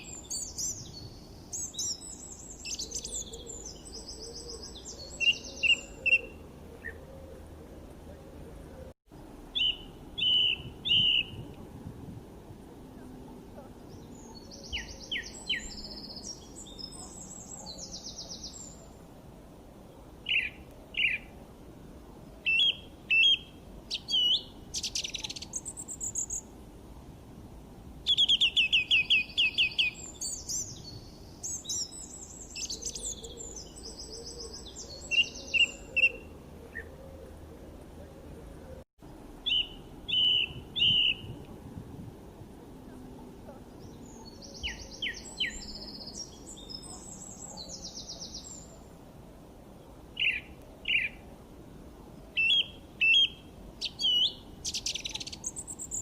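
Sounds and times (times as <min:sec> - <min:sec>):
songbirds chirping: 0:00.0 - 0:11.6, 0:12.3 - 0:41.6, 0:42.2 - 0:56.0
low background hiss: 0:00.0 - 0:56.0.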